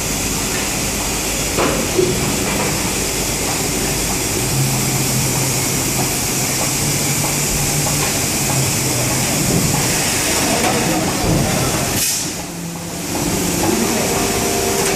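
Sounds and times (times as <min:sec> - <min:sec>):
injection moulding machine running: 0:00.0 - 0:14.9.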